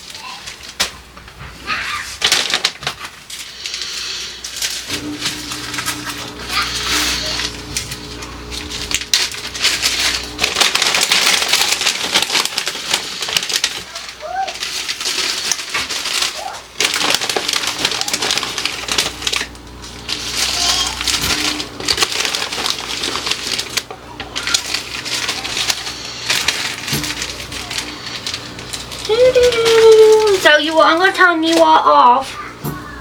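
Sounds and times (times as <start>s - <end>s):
plastic bags crinkling: 0.0s - 33.0s.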